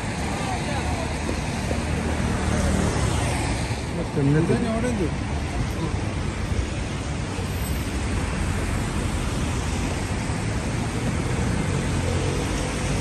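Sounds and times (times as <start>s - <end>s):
road traffic hiss and rumble: 0.0s - 13.0s.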